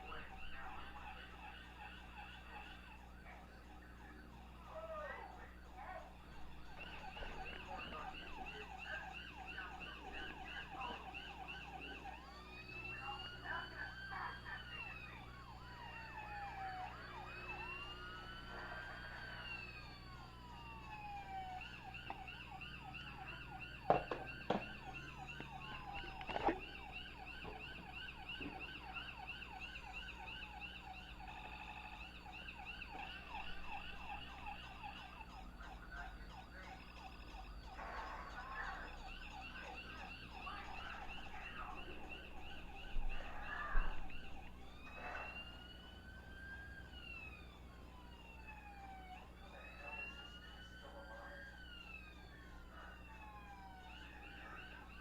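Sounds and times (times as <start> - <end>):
toy siren wailing: 0.0 - 55.0
toy siren warbling yelp: 0.0 - 55.0.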